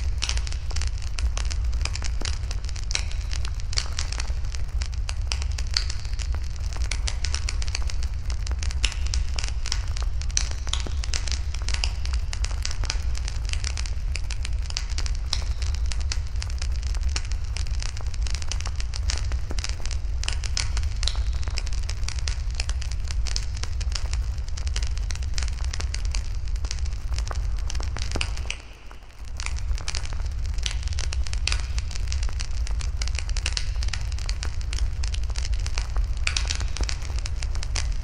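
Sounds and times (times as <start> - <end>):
fire low rumble: 0.0 - 38.0
wood fire crackling and popping: 0.0 - 38.0.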